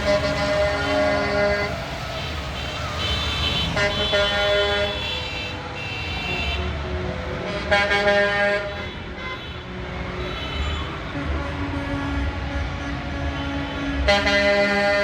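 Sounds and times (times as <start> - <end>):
truck air horn blasts: 0.0 - 1.9, 2.5 - 15.0
truck engines rumbling: 0.0 - 15.0.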